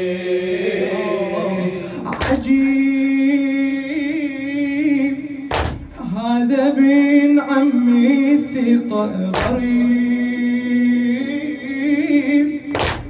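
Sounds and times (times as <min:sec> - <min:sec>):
man singing a lament: 0:00.0 - 0:13.0.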